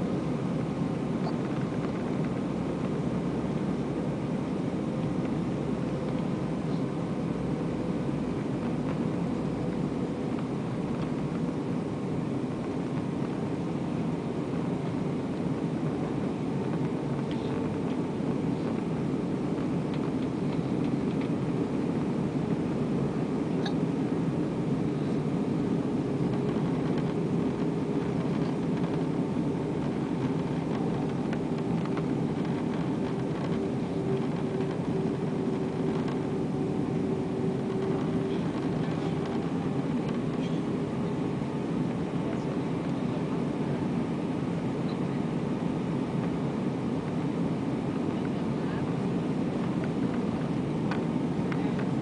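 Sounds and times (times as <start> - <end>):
airplane cabin engine rush: 0.0 - 52.0
faint steady hum: 0.0 - 52.0.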